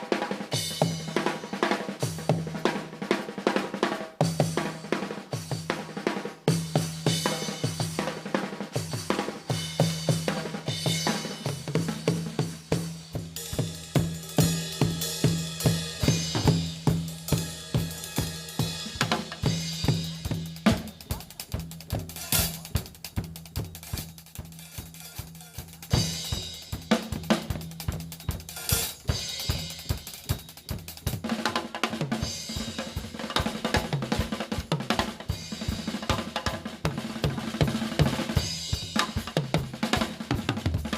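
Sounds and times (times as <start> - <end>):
drum kit played fast: 0.0 - 40.9.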